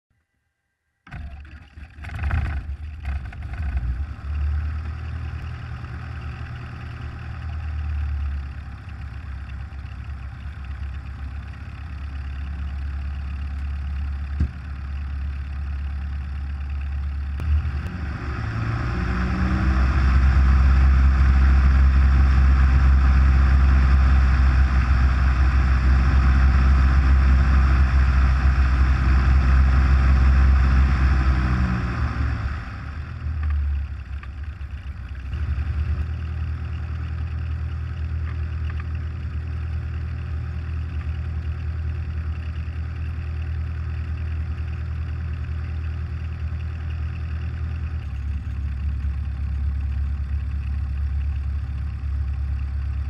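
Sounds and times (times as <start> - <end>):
airplane engine and propeller: 1.1 - 53.0.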